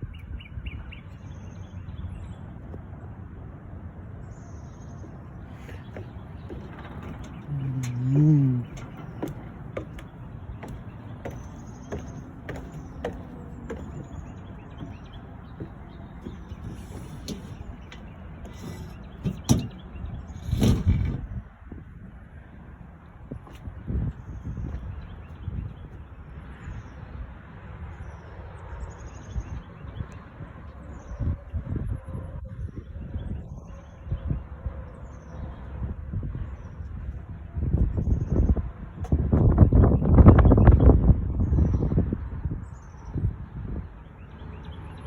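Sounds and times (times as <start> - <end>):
strong gusty wind: 5.1 - 26.6, 29.4 - 44.1.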